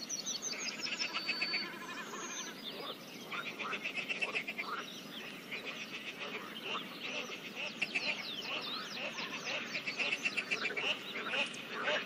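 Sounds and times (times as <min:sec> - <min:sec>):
birds singing: 0:00.0 - 0:12.0
frogs calling: 0:00.5 - 0:12.0.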